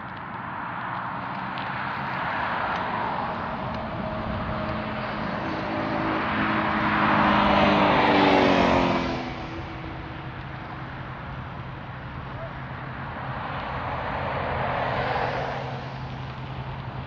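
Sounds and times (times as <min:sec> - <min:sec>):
car passing by: 0:00.4 - 0:17.0.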